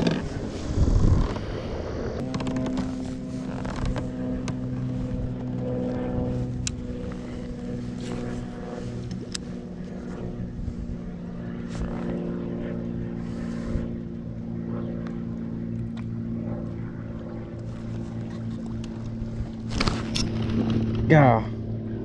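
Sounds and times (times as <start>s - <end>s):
boat motor running: 2.2s - 22.0s.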